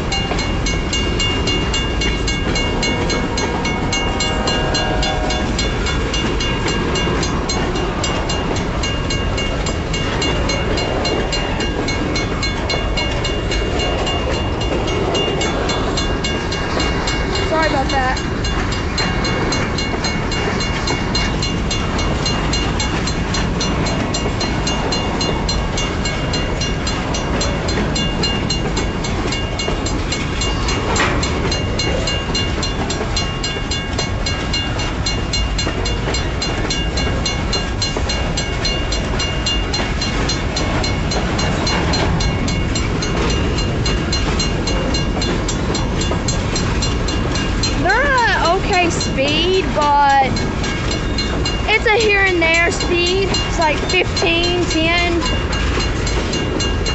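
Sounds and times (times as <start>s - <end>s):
steady high ringing: 0.0s - 56.9s
train wheels rumbling on rails: 0.0s - 56.9s.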